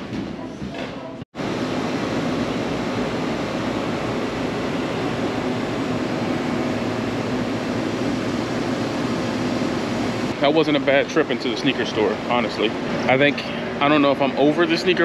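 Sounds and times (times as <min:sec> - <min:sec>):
air conditioning units whirring: 0:00.0 - 0:15.0.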